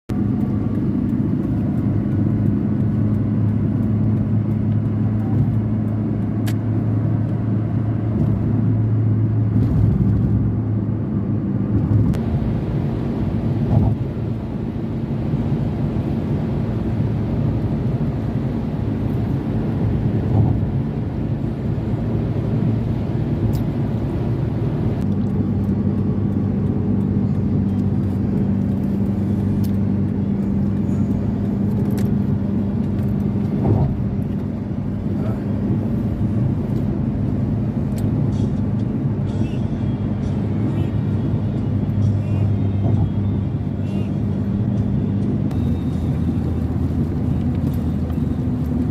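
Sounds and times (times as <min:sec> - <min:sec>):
vehicle engine and road hum: 0:00.0 - 0:48.9.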